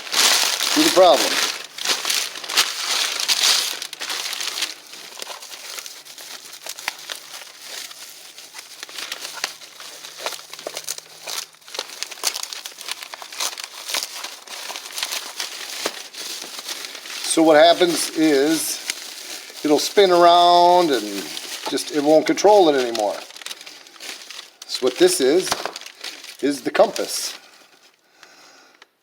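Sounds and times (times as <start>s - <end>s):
packaging crinkling: 0.0s - 28.9s.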